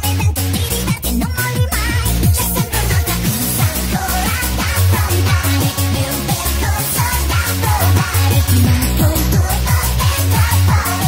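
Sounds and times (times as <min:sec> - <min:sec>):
sped-up electronic dance music: 0:00.0 - 0:11.0.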